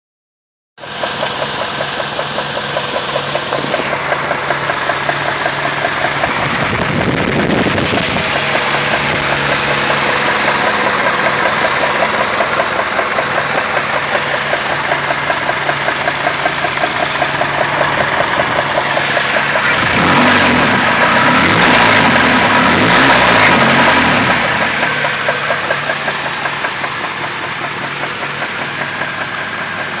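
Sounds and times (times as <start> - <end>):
engine running with rhythmic knock: 0.8 - 30.0.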